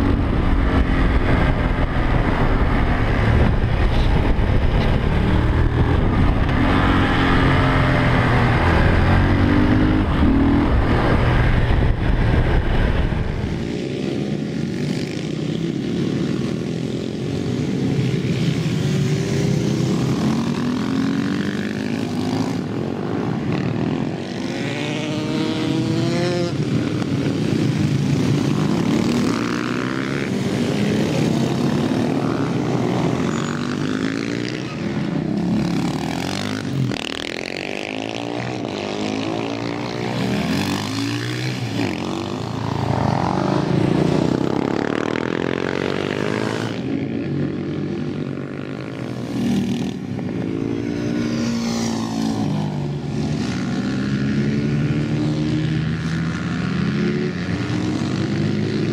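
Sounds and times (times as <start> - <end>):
motorcycle engines revving: 0.0 - 58.9.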